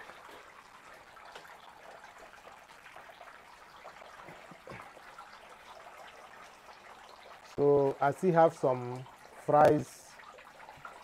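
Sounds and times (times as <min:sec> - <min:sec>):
water trickling into tank: 0:00.0 - 0:11.0.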